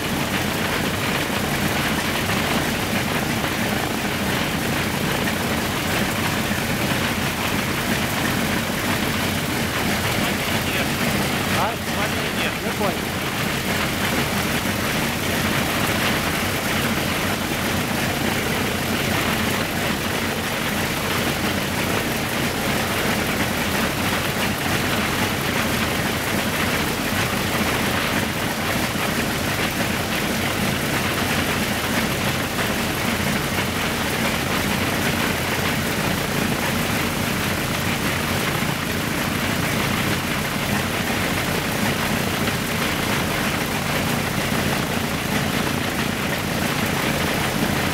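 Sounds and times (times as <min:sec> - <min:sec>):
radial piston engine running: 0:00.0 - 0:47.9.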